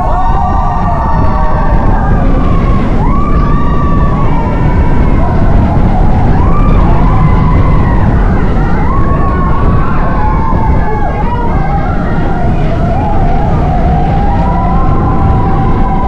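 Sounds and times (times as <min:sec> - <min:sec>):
people screaming: 0:00.0 - 0:16.0
roller coaster rumble: 0:00.0 - 0:16.0.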